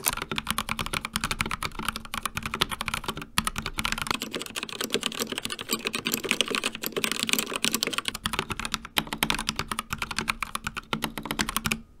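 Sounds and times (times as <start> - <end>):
fast mechanical keyboard typing: 0.0 - 11.8.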